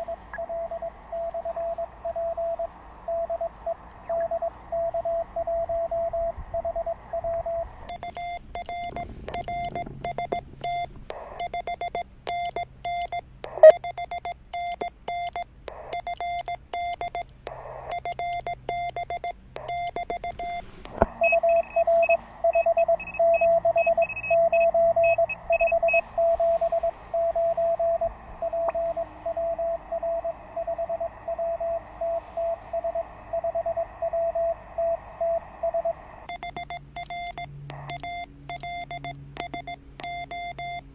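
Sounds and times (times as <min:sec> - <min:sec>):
faint higher-pitched morse signal: 0:00.0 - 0:15.4, 0:17.9 - 0:40.8
morse code tone: 0:00.0 - 0:40.9
receiver hiss: 0:00.0 - 0:40.9.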